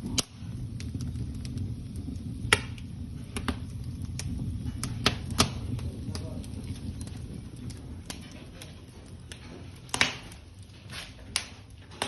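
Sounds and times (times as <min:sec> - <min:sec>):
fire low rumble: 0:00.0 - 0:12.0
wood fire crackling and popping: 0:00.0 - 0:12.0.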